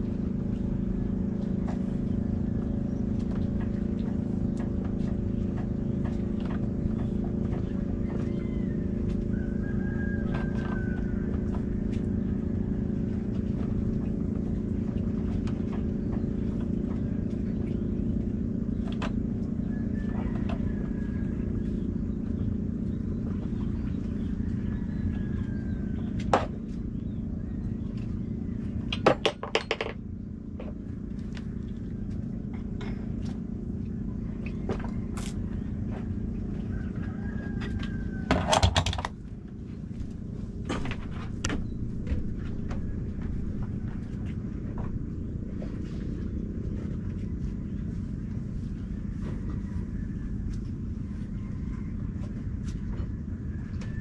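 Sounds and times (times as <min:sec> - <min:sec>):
boat engine drone: 0:00.0 - 0:54.0.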